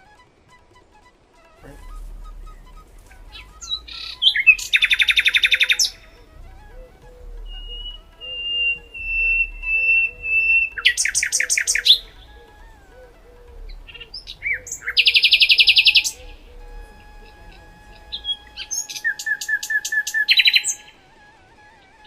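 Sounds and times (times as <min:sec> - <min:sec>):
faint steady background tones: 0:00.0 - 0:22.0
birds chirping in rapid trills: 0:01.6 - 0:21.0.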